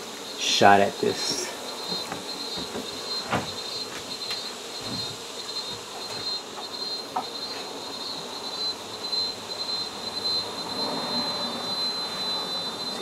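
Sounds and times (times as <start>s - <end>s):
high-pitched whine: 0.0s - 13.0s
honey bees buzzing: 0.0s - 13.0s.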